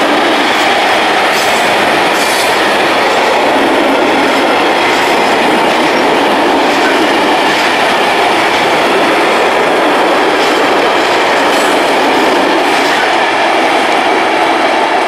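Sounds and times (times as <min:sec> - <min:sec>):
steel wheels rolling on rail: 0:00.0 - 0:15.0.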